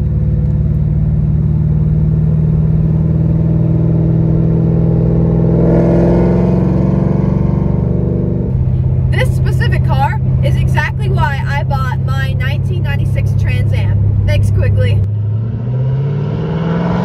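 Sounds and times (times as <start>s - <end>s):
car exhaust droning: 0.0s - 17.0s.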